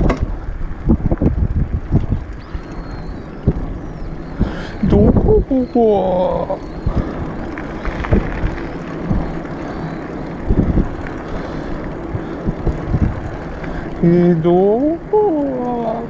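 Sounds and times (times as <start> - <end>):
tyres rolling on asphalt: 0.0 - 16.0
wind rumbling on microphone: 0.0 - 16.0.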